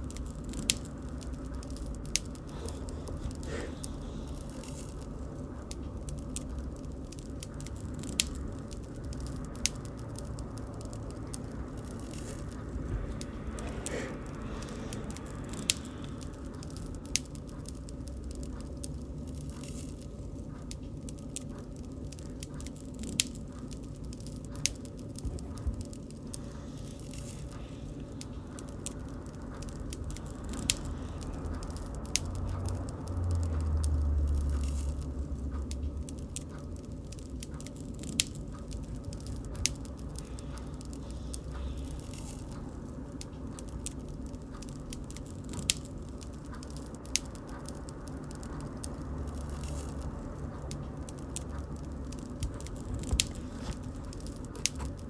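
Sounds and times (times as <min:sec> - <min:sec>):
low rumble of flames: 0:00.0 - 0:55.0
wood crackling and popping: 0:00.0 - 0:55.0.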